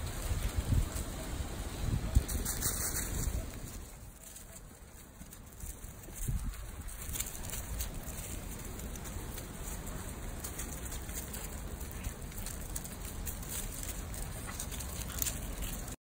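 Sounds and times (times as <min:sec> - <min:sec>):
dog paws scuffing on gravel: 0:00.0 - 0:16.0
steady low rumble: 0:00.0 - 0:16.0.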